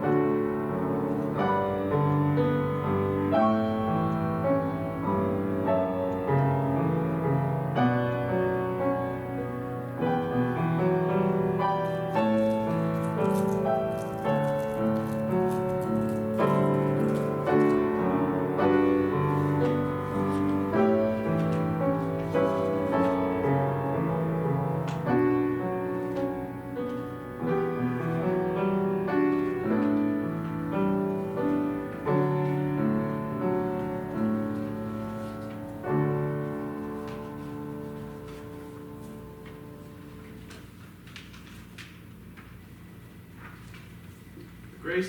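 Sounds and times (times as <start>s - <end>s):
slow chordal piano piece: 0.0s - 44.7s.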